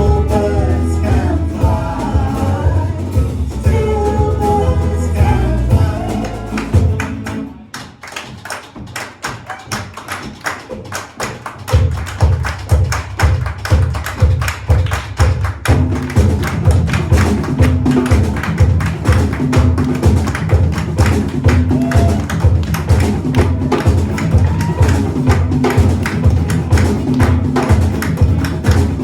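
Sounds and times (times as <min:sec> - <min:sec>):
live band playing: 0:00.0 - 0:09.4, 0:10.0 - 0:29.0.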